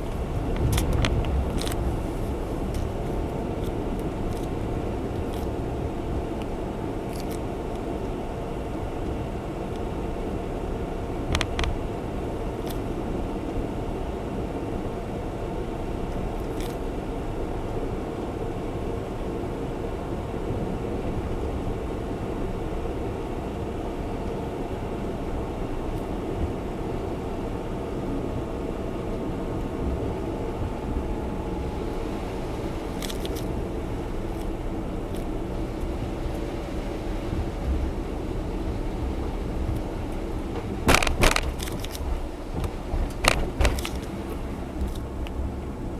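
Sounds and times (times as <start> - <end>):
in-cabin engine and road noise: 0.0 - 45.9.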